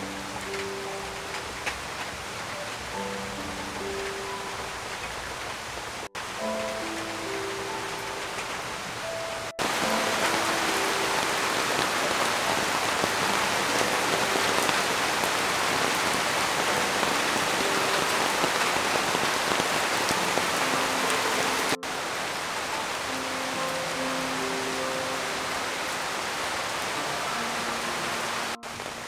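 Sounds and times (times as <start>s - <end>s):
heavy rain hiss: 0.0s - 29.0s.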